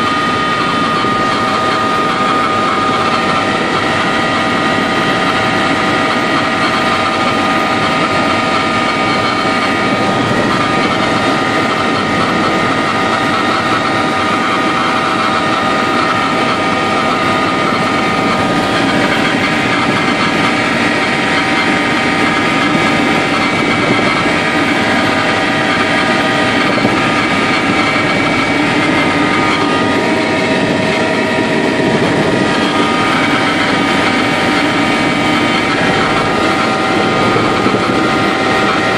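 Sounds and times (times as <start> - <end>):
helicopter engine and rotor noise: 0.0 - 38.9
high-pitched whine: 0.0 - 38.9.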